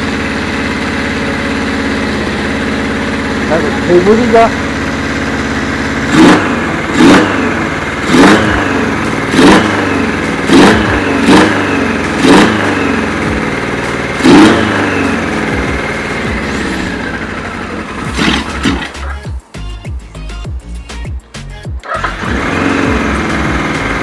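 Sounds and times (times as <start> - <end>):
motorcycle engine revving: 0.0 - 19.8, 21.8 - 24.0.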